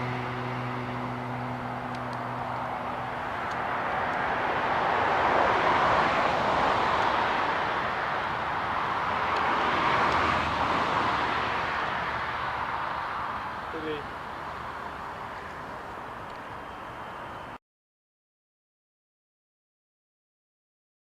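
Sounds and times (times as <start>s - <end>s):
jet engine roar: 0.0s - 17.6s.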